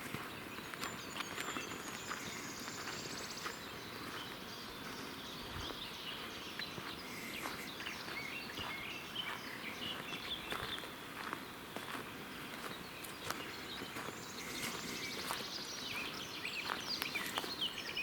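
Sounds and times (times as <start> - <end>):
birds warbling chirps: 0.0 - 18.0.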